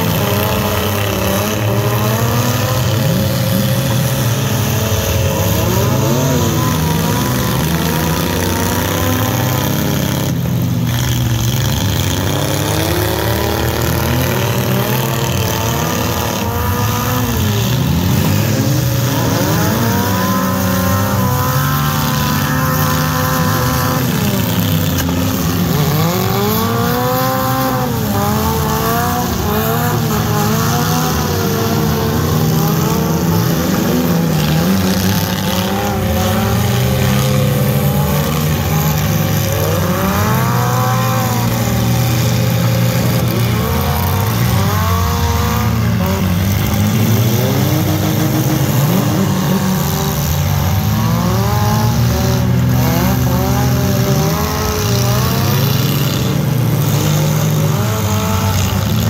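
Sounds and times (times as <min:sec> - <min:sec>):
truck engines revving: 0:00.0 - 0:59.0.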